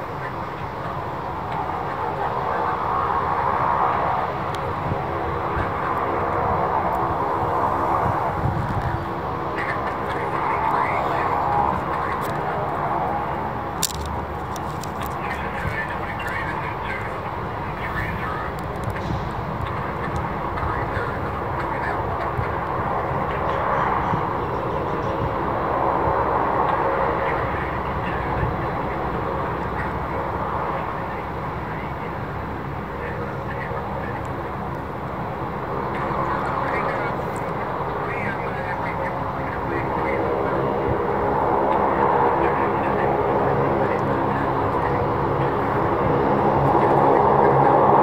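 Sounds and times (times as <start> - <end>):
jet airliner engines running: 0.0 - 48.0.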